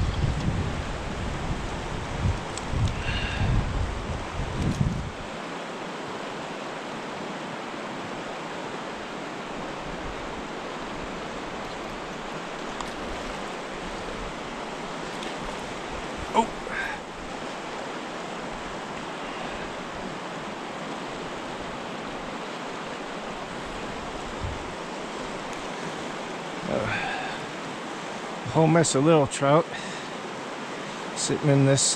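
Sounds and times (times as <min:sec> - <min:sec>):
river current rushing: 0:00.0 - 0:31.9.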